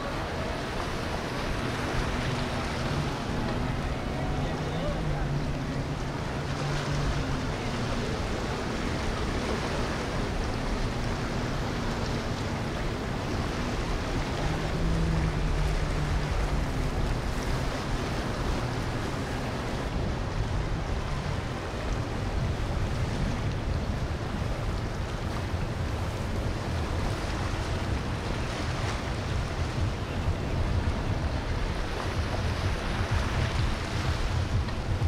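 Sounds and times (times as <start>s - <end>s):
boat engines humming: 0.0s - 35.0s
wind noise on microphone: 0.0s - 35.0s.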